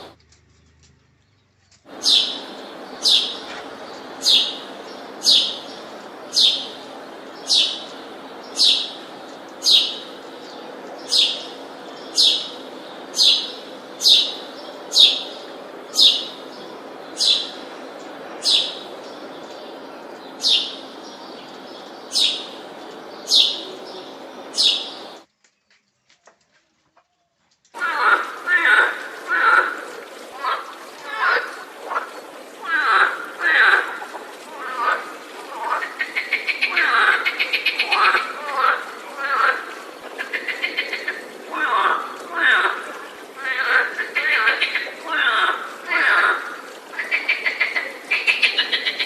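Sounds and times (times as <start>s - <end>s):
background hiss: 0.0s - 26.3s, 27.7s - 49.0s.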